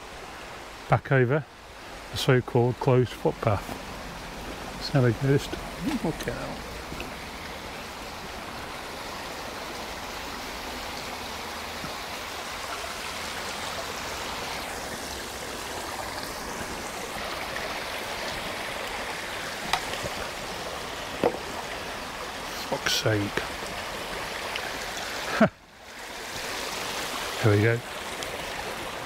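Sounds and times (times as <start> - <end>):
brook babbling over stones: 0.0 - 29.0.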